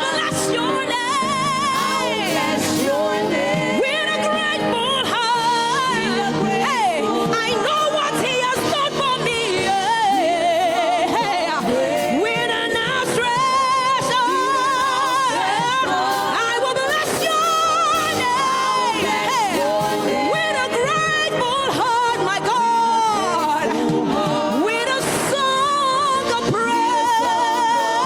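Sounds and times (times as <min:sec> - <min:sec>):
musical accompaniment: 0:00.0 - 0:28.0.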